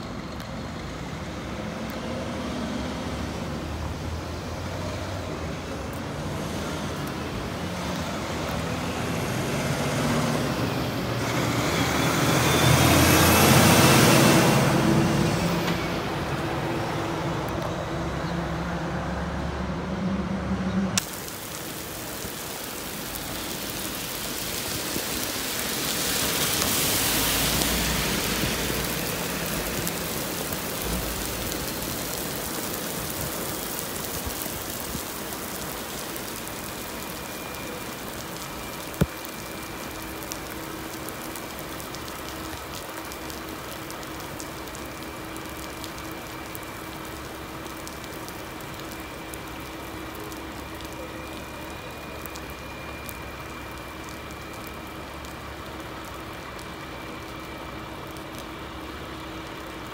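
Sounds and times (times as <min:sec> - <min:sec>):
tyre hiss on wet road: 0:00.0 - 0:19.8, 0:21.0 - 0:59.9
rain on wet pavement: 0:00.0 - 0:20.0, 0:21.0 - 0:59.9.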